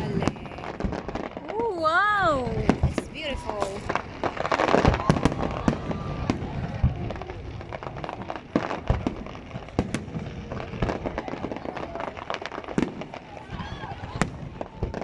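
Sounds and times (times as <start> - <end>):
deep firework booms: 0.0 - 15.0
firework bangs and crackles: 0.0 - 15.0.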